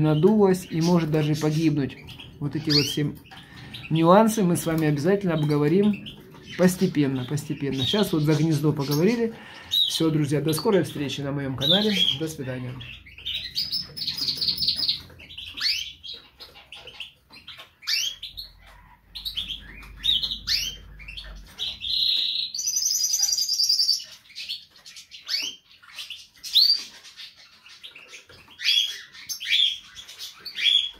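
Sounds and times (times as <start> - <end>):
bird trill: 0.0 - 10.9, 11.6 - 30.9
canaries chirping: 0.0 - 30.9.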